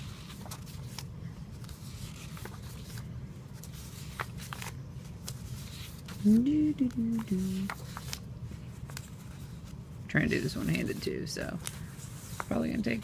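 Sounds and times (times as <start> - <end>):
low steady rumble: 0.0 - 13.0
paper rustling: 0.0 - 13.0.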